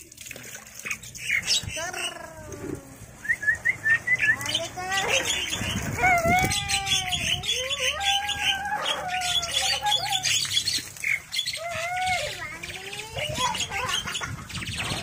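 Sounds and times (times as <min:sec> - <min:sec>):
high-pitched bird chirping: 0:00.8 - 0:02.4, 0:03.2 - 0:15.0
whistled bird calls and squawks: 0:00.8 - 0:02.4, 0:03.2 - 0:15.0.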